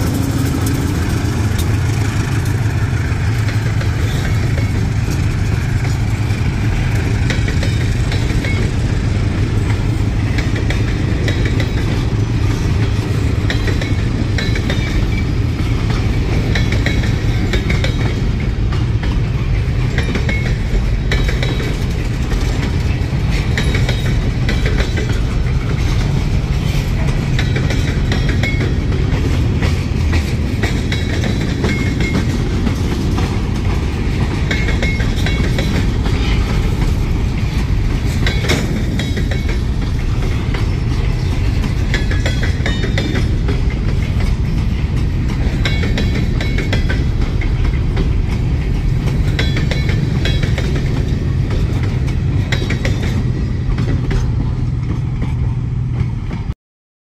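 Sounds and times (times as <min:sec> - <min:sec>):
clicking over rail joints: 0:00.0 - 0:56.5
train wheels rumbling on rail: 0:00.0 - 0:56.6.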